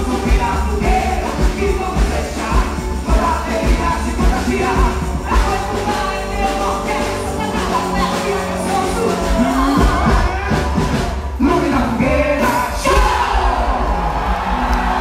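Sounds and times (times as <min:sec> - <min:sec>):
person singing: 0:00.0 - 0:13.6.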